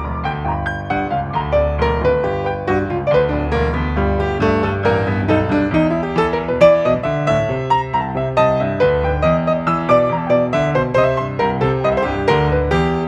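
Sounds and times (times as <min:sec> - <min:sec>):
piano playing: 0:00.0 - 0:13.0.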